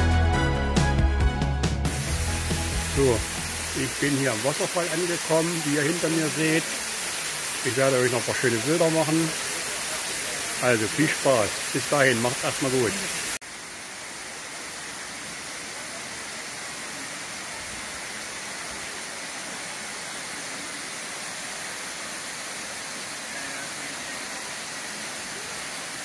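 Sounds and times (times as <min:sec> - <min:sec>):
waterfall rushing into a pool: 0:01.9 - 0:26.0.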